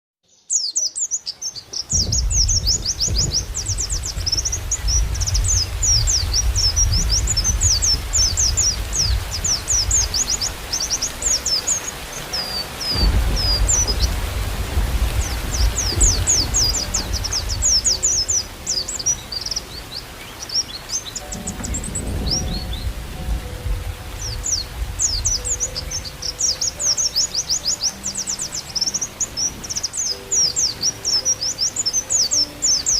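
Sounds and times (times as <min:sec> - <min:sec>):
bird chirps and trills: 0:00.3 - 0:32.9
low rumble of rain: 0:00.3 - 0:32.9.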